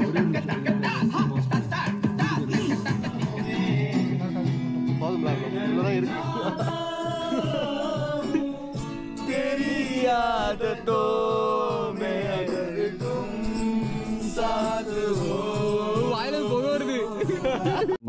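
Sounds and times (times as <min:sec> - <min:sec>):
song with singing voice: 0:00.0 - 0:18.0.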